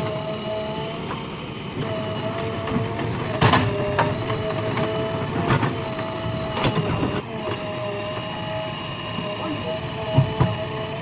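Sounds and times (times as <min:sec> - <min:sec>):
diesel engine running: 0:00.0 - 0:11.0
mechanical whine: 0:00.0 - 0:11.0.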